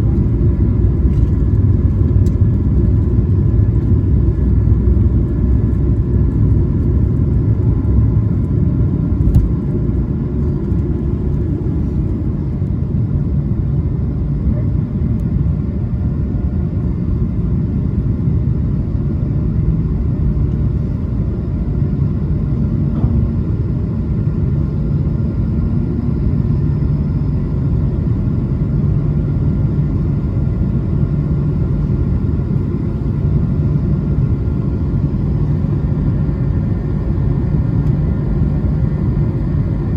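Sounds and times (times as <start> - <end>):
aircraft cabin low rumble: 0.0 - 39.9.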